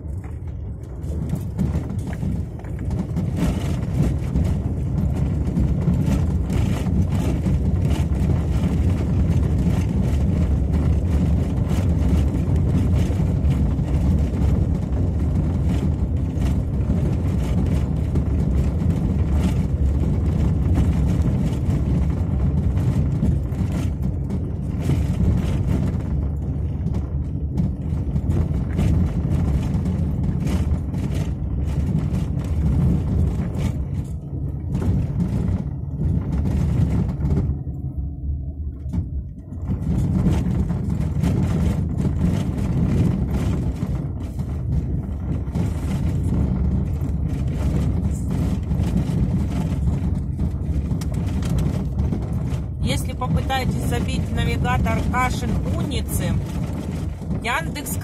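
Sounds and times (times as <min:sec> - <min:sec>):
car tyres and engine rumble: 0:00.0 - 0:58.0.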